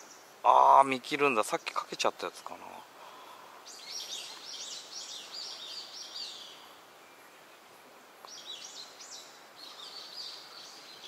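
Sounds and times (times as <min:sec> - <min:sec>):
faint outdoor hiss: 0:00.0 - 0:11.0
songbird singing: 0:00.0 - 0:11.0.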